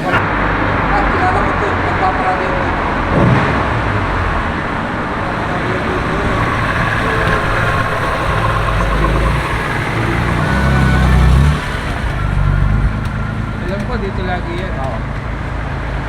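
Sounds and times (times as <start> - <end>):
car engine running nearby: 0.0 - 16.0
street traffic: 0.0 - 16.0.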